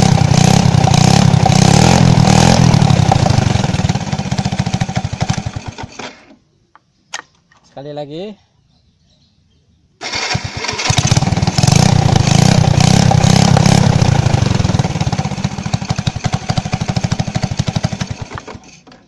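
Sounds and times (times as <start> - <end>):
scooter engine starting and revving: 0.0 - 6.4, 10.0 - 19.0.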